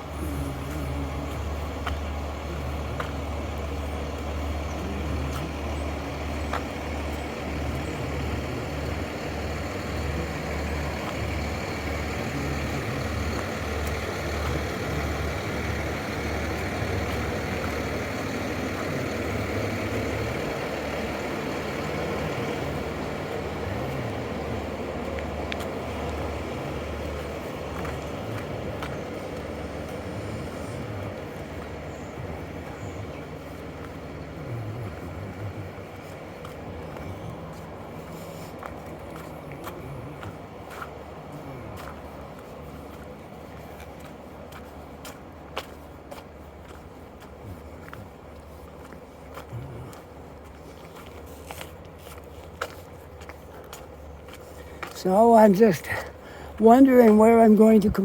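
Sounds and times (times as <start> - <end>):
heavy machinery engine rumbling: 0.0 - 58.0.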